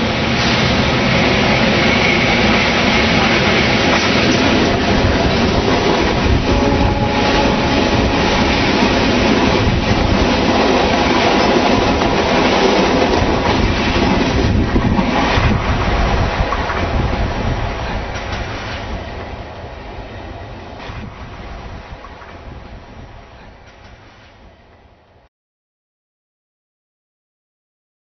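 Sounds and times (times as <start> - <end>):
train wheels rumbling on rails: 0.0 - 25.3.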